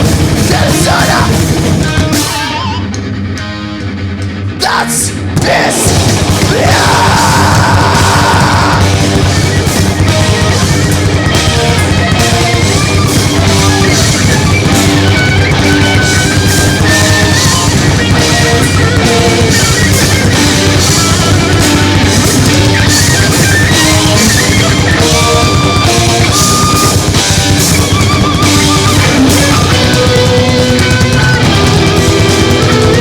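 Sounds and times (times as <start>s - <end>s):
lead guitar melody: 0.0s - 4.2s, 7.9s - 33.0s
bass guitar: 0.0s - 33.0s
distorted electric guitars: 0.0s - 33.0s
drum kit: 0.0s - 33.0s.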